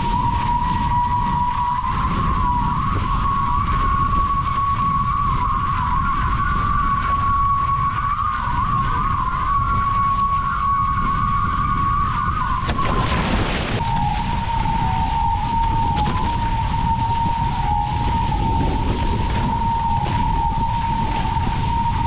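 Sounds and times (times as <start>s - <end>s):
high-pitched hydrofoil hum: 0.0s - 22.0s
rushing water: 0.0s - 22.0s
wind buffeting microphone: 0.0s - 22.0s.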